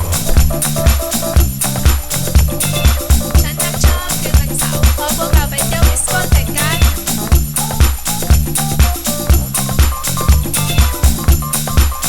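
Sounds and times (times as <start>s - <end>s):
electronic disco-funk music: 0.0s - 12.0s
kick drum: 0.0s - 12.0s.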